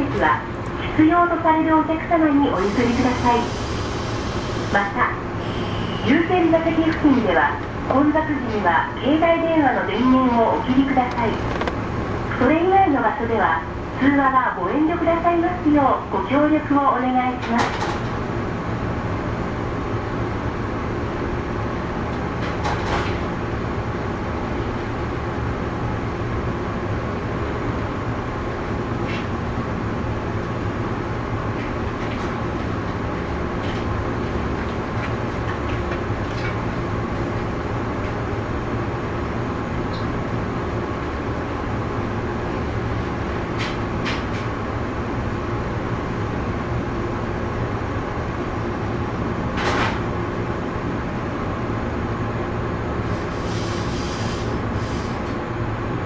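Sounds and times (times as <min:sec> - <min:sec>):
train equipment humming: 0:00.0 - 0:22.6, 0:30.2 - 0:56.0.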